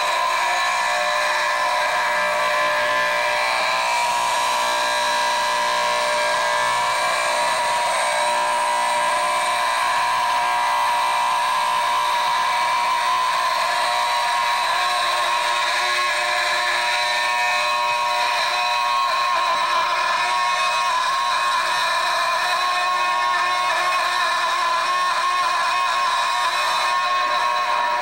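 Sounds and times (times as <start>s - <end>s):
fire alarm ringing: 0.0s - 28.0s.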